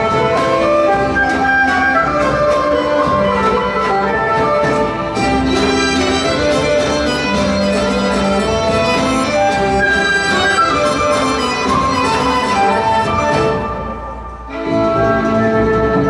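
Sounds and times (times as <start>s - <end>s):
lively folk dance music: 0.0s - 16.0s.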